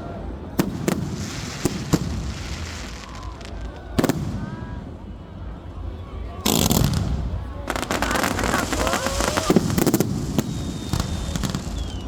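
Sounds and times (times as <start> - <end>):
noisy crowd: 0.0 - 12.0
firecracker bangs: 0.6 - 5.2, 6.4 - 12.0.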